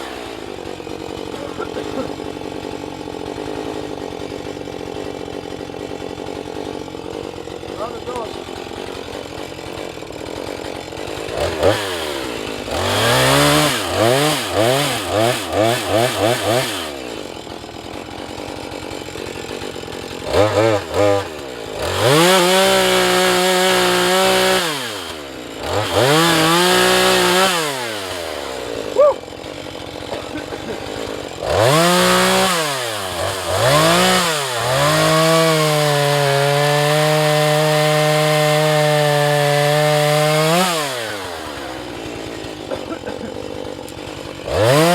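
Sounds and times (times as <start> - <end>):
chainsaw idling and revving: 0.0 - 44.9.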